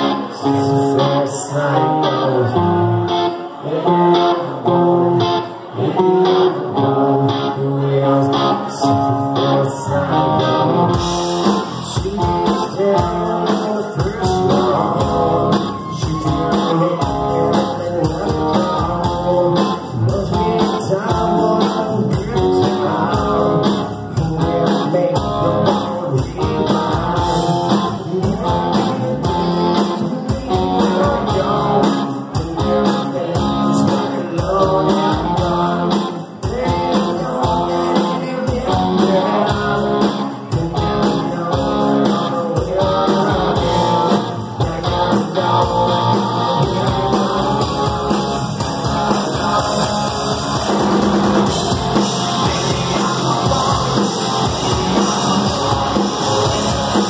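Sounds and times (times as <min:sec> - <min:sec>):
live rock band playing: 0:00.0 - 0:57.0
man singing: 0:00.0 - 0:57.0.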